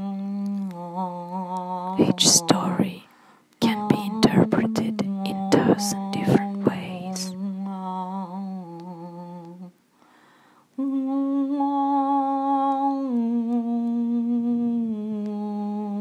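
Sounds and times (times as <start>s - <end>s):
person humming a slow tune: 0.0s - 3.0s, 3.6s - 9.8s, 10.8s - 16.0s.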